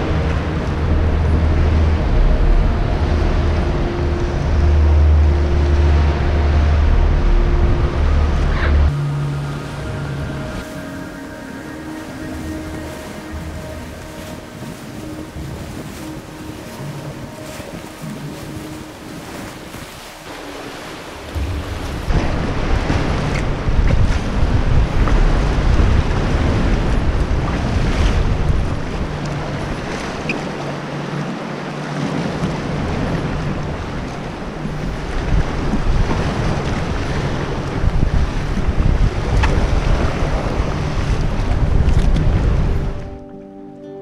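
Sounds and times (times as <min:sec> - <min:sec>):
wind buffeting microphone: 0:00.0 - 0:43.2
sea waves sloshing: 0:00.0 - 0:44.0.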